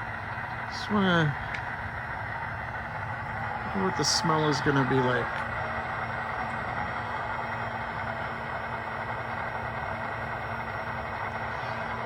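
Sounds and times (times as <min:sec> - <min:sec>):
diesel engine idle through small speaker: 0:00.0 - 0:12.0.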